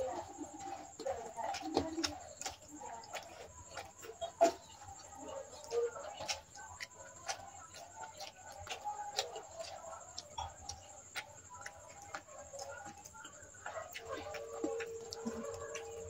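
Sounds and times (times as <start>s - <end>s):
chewing clicks and smacks: 0.1s - 16.0s.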